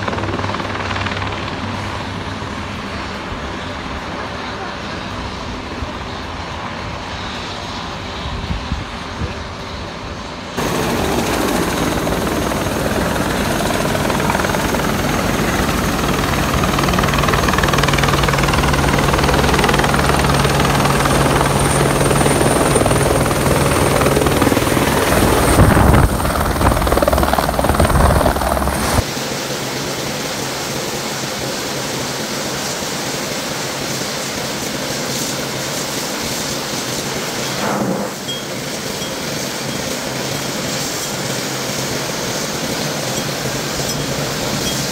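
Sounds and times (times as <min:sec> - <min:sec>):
aircraft engines humming: 0:00.0 - 0:44.9
helicopter rotor chop and turbine: 0:00.0 - 0:44.9.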